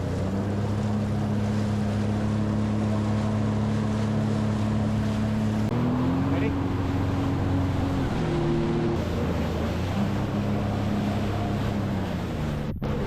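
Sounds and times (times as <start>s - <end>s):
jet ski engine running: 0.0s - 13.0s
water rushing: 0.0s - 13.0s
wind: 0.0s - 13.0s.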